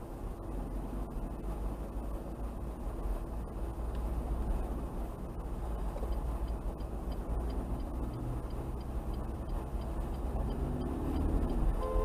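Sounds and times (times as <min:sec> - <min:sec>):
engine and tyre rumble: 0:00.0 - 0:12.0
turn signal ticking: 0:00.0 - 0:12.0.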